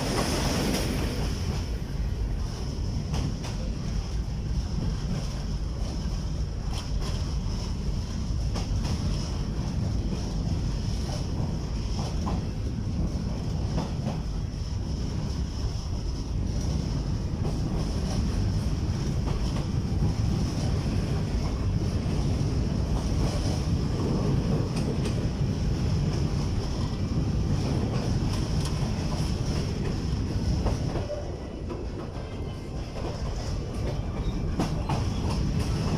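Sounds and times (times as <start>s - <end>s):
train rumble: 0.0s - 35.9s.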